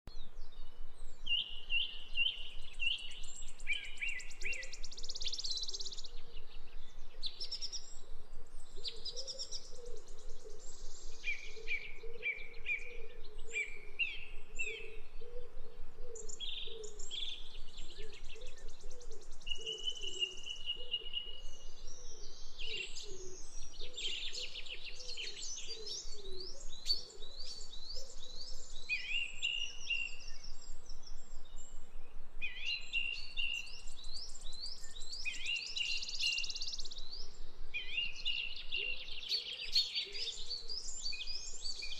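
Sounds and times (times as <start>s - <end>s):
birds chirping and trilling: 0.2s - 41.9s.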